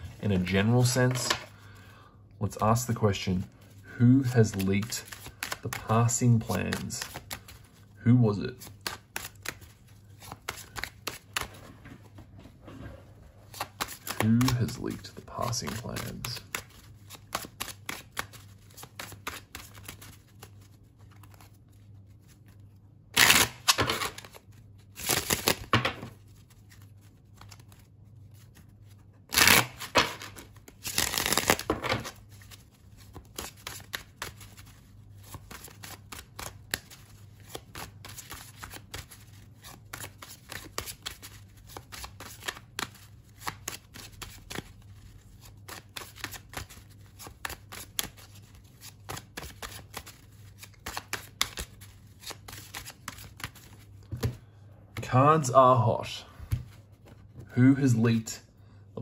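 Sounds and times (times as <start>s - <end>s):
cards shuffling: 0.0s - 1.6s, 2.6s - 12.4s, 13.4s - 54.4s.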